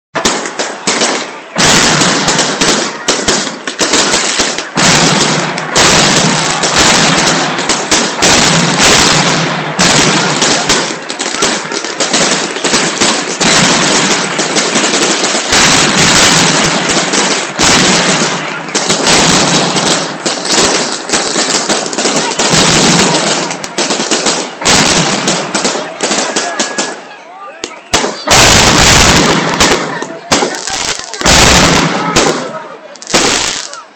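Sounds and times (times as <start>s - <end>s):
firecrackers crackling: 0.1s - 33.9s.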